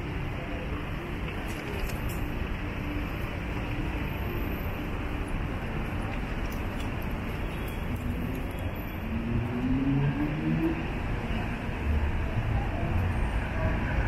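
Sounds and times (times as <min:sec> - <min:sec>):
tyres on road: 0:00.0 - 0:14.0
vehicle engines humming: 0:00.0 - 0:14.0.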